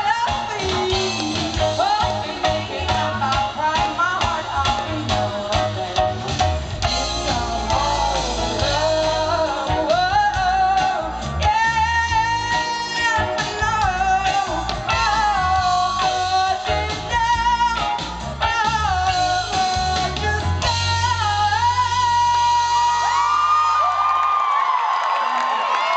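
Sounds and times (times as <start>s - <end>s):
woman singing: 0.0s - 6.4s, 7.0s - 23.4s
live band with guitar and bass: 0.0s - 24.1s.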